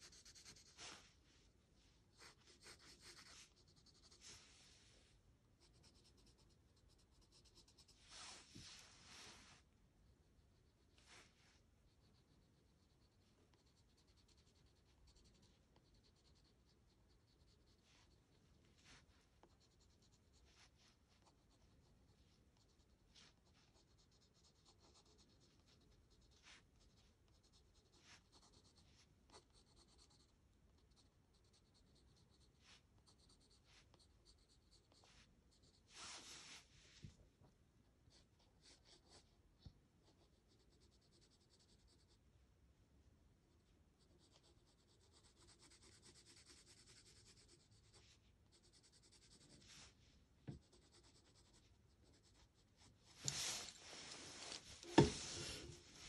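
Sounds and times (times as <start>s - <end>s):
pencil scratching on paper: 0.0s - 1.1s, 2.2s - 4.5s, 5.6s - 8.5s, 10.6s - 36.6s, 38.1s - 39.4s, 40.0s - 42.2s, 44.0s - 56.0s.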